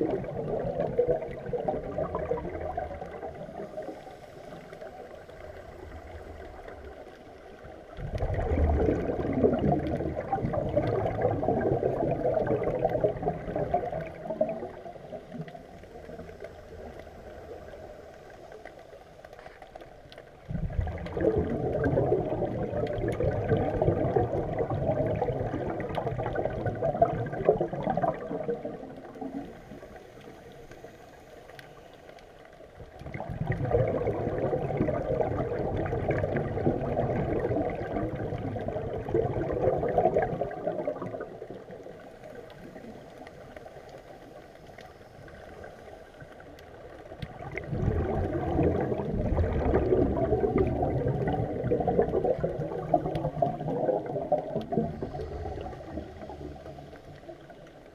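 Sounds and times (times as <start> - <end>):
underwater air bubbling: 0.0 - 57.9.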